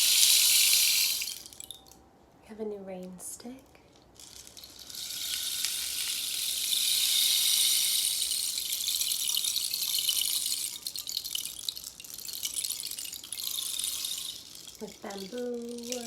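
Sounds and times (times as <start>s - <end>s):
rain stick pellets cascading: 0.0s - 2.0s, 3.9s - 16.0s.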